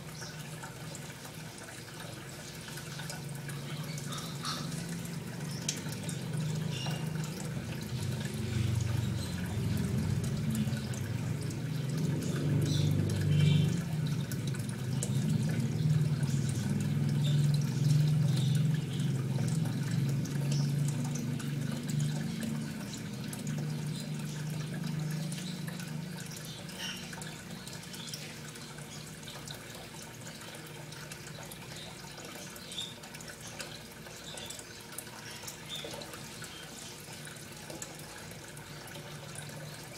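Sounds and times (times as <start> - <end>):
running water rumbling: 0.0 - 39.9
water dripping and trickling: 0.0 - 39.9.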